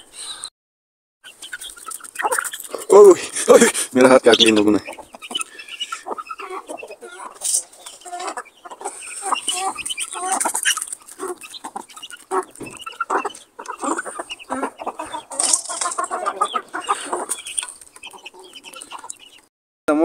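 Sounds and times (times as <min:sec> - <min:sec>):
chickens clucking: 0:01.2 - 0:19.5.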